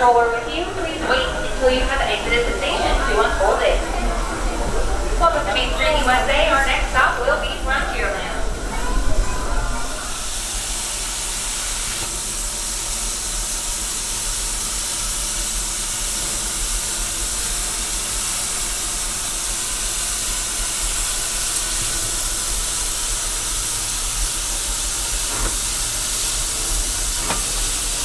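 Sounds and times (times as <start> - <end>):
steam hissing from locomotive: 0.1 - 28.0.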